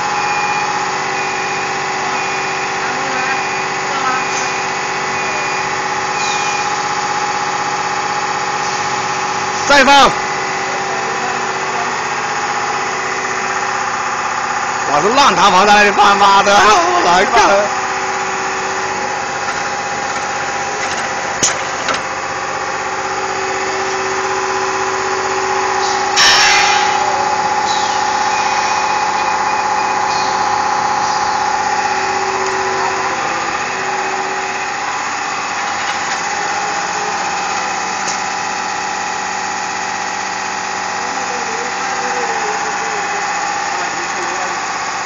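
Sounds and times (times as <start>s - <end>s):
machine humming with whine: 0.0s - 45.0s.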